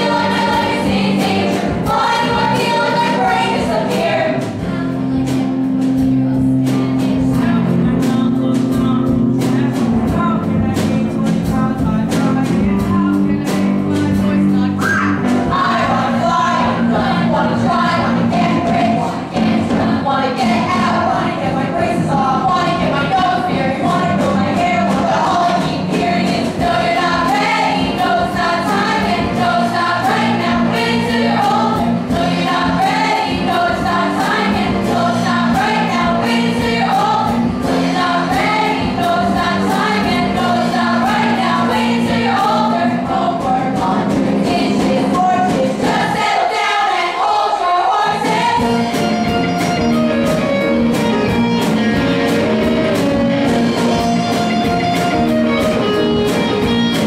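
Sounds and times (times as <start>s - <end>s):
group of voices singing: 0.0s - 55.3s
instrumental accompaniment: 0.0s - 57.0s.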